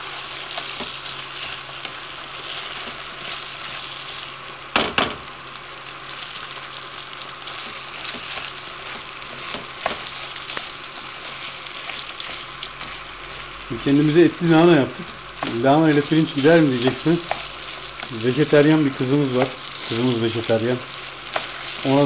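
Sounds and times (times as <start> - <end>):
rice sizzling in oil: 0.0 - 22.0.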